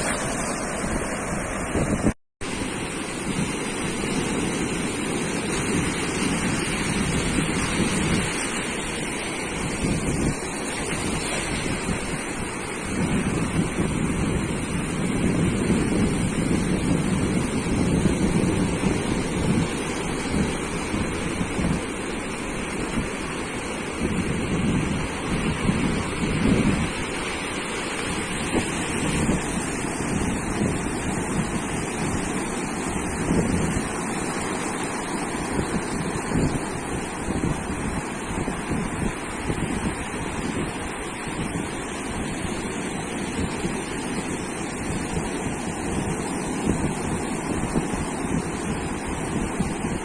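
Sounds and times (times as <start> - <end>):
ocean surf breaking on beach: 0.0 - 50.0
wind buffeting microphone: 0.0 - 50.0.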